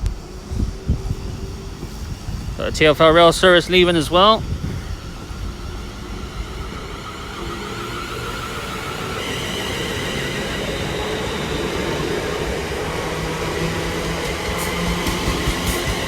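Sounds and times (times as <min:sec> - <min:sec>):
electric train motor whine: 0:00.0 - 0:16.0
wheels clicking over rail joints: 0:02.9 - 0:16.0.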